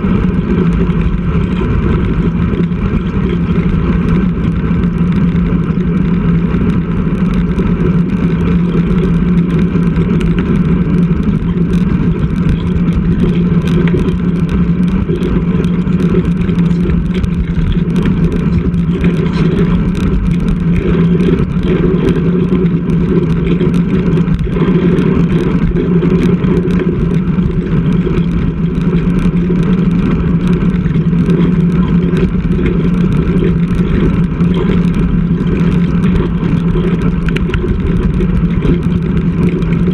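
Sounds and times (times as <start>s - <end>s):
constant low hum: 0.0s - 39.9s
small rattling ticks: 0.0s - 39.9s
wind and road noise: 0.0s - 39.9s.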